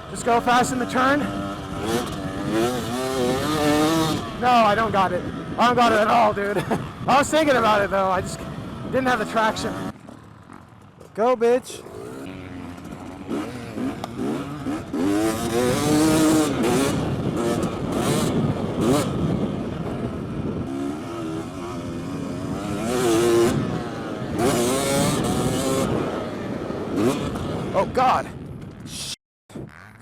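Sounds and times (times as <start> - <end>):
motocross bike engine revving: 0.0 - 11.0, 11.6 - 28.0.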